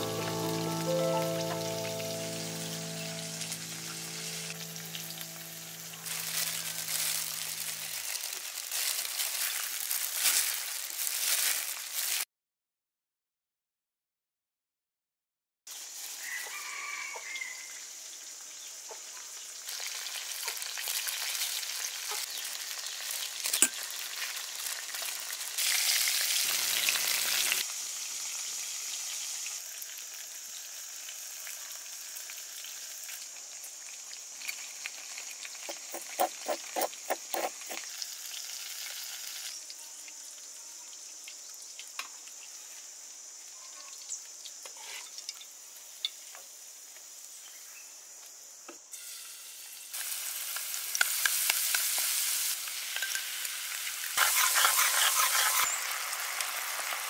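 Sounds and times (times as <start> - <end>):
chicken sizzling in hot oil: 0.0 - 12.3, 15.7 - 47.4, 48.9 - 57.0.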